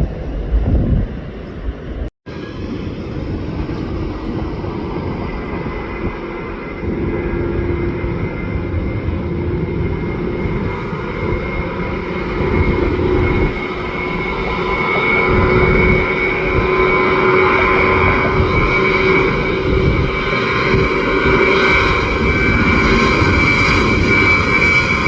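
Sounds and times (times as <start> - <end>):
jet engines whining: 0.0 - 25.0.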